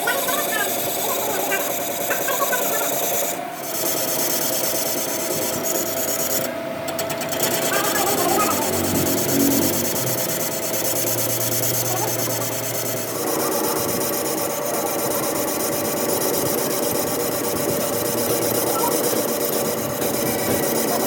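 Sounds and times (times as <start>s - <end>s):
machine running: 0.0s - 21.0s.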